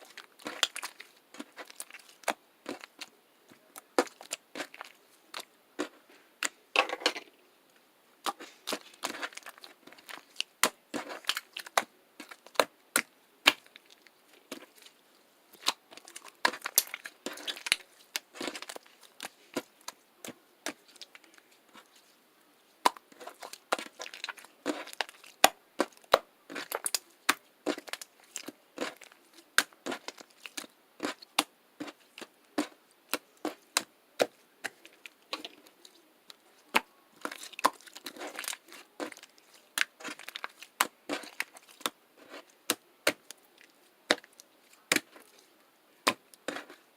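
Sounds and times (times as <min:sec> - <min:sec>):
crinkling and crackling: 0:00.0 - 0:46.9.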